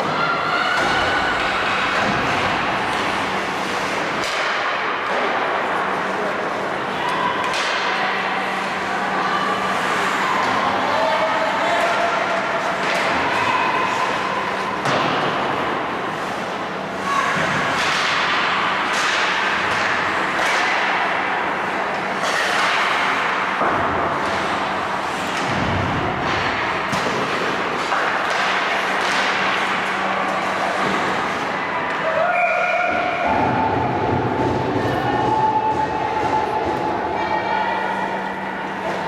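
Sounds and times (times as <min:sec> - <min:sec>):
hockey sticks and puck clacking: 0:00.0 - 0:39.0.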